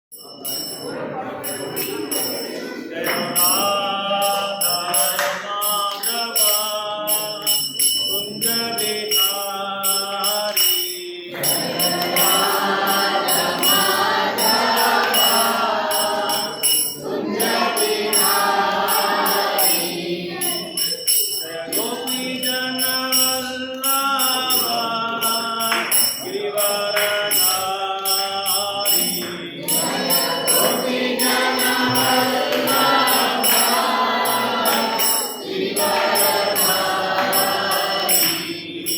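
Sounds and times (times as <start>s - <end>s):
metallic jingling beat: 0.1s - 38.9s
voices singing a chant: 0.1s - 38.9s.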